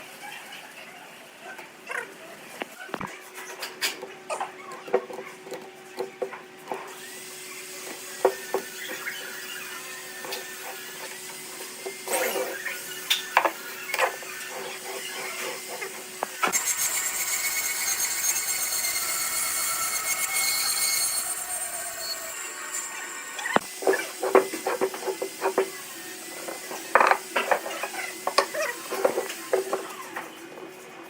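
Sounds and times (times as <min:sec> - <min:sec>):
power tool working wood: 0:04.9 - 0:30.3.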